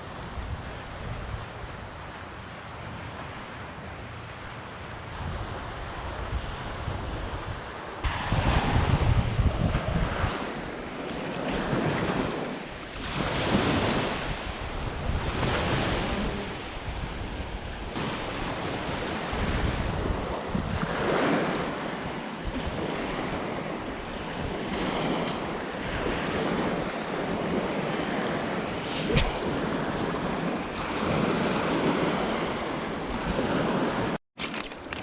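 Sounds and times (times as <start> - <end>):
wind rumbling on microphone: 0.0 - 34.2
water noise: 0.0 - 35.0.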